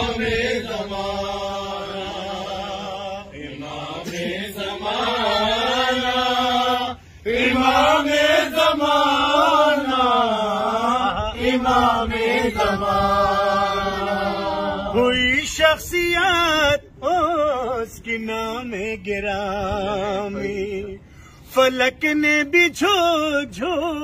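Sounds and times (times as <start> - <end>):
man singing devotional song: 0.0 - 24.0.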